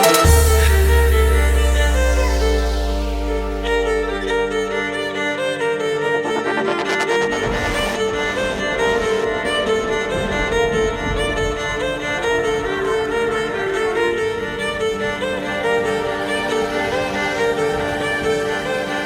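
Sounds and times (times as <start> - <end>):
bowed strings music: 0.0 - 19.0.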